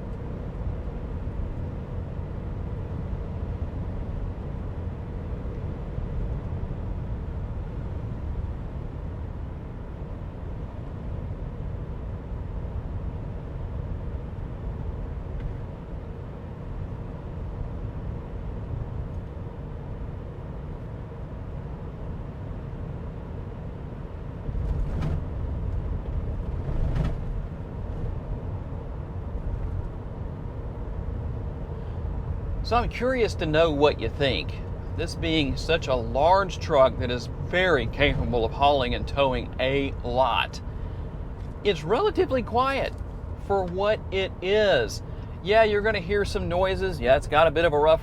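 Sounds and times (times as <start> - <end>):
faint steady hum: 0.0 - 48.0
truck interior road noise: 0.0 - 48.0.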